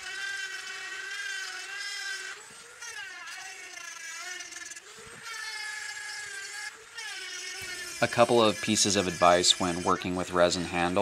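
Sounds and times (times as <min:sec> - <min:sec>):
rotary tool grinding: 0:00.0 - 0:11.0.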